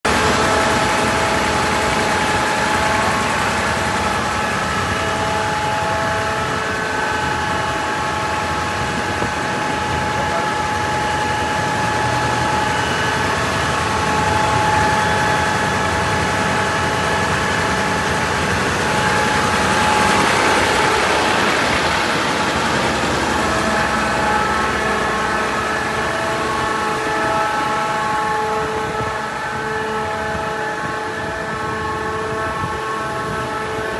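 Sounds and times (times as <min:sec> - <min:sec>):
engine whining over rushing noise: 0:00.0 - 0:33.9.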